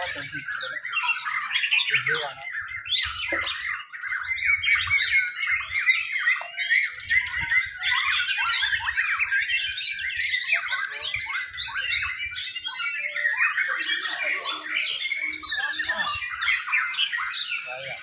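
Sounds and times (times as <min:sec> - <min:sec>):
birds singing whistled phrases: 0:00.0 - 0:18.0.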